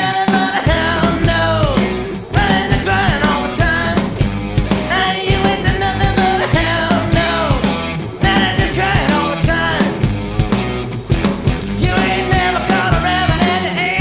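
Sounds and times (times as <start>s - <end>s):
drums: 0.0s - 14.0s
electric guitar with bending lead: 0.0s - 14.0s
bass guitar: 0.6s - 14.0s.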